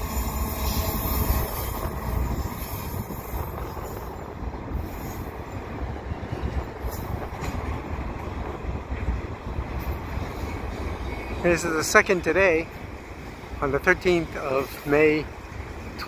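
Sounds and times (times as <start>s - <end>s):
diesel locomotive engines passing: 0.0s - 16.0s.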